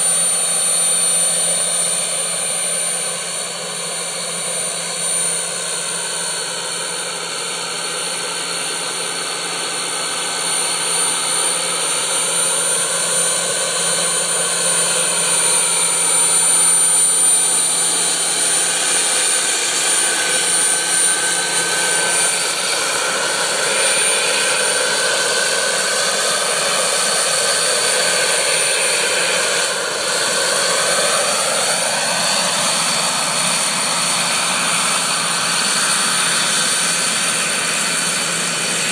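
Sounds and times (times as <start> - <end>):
helicopter rotor noise: 0.0 - 38.9
model helicopter turbine whine: 0.0 - 38.9.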